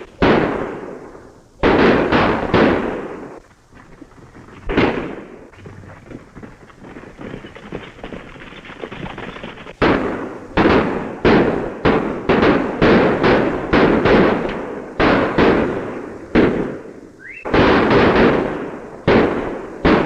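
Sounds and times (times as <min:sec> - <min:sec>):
gunshots: 0:00.0 - 0:03.4, 0:04.6 - 0:20.0.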